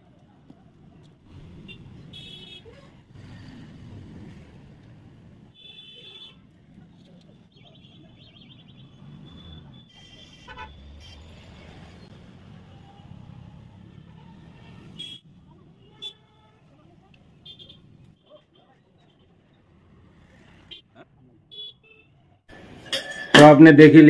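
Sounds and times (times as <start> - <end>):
low street rumble: 0.0 - 24.0.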